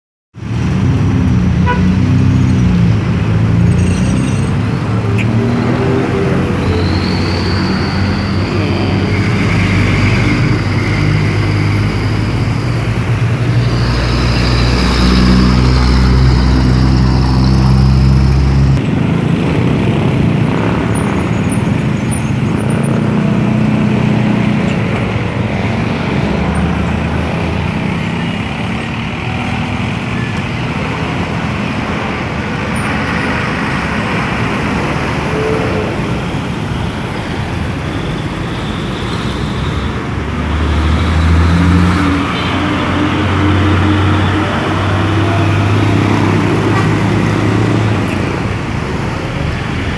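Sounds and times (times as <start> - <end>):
road and tyre noise: 0.3 - 49.9
truck diesel engines hum: 0.4 - 49.9.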